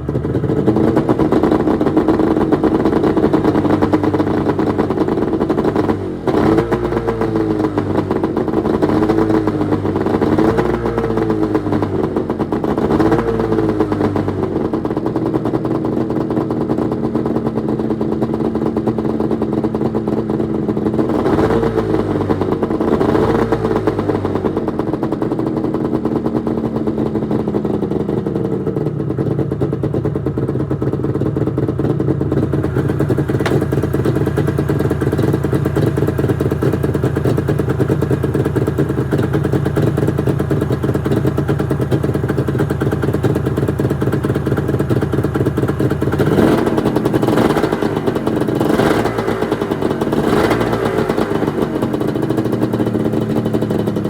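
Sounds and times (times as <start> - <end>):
snowmobile engine revving and idling: 0.0 - 54.0.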